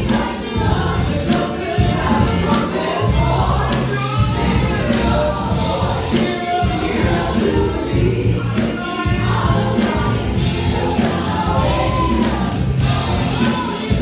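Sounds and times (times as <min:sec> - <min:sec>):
band with bass and percussion: 0:00.0 - 0:14.0
choir singing gospel music: 0:00.0 - 0:14.0.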